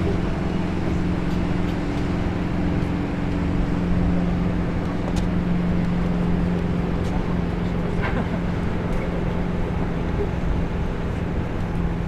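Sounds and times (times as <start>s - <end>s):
boat engines droning: 0.0s - 12.0s
noisy rush: 0.0s - 12.0s.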